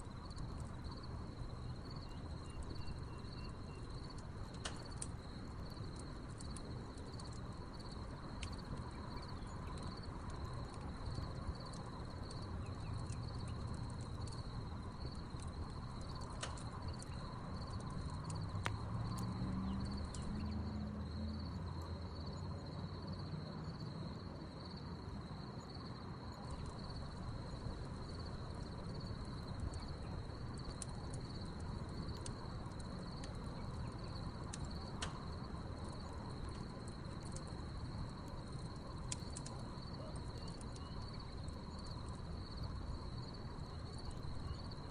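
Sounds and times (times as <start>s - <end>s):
wood fire crackling: 0.0s - 22.0s, 26.2s - 44.9s
crickets chirping: 0.0s - 44.9s.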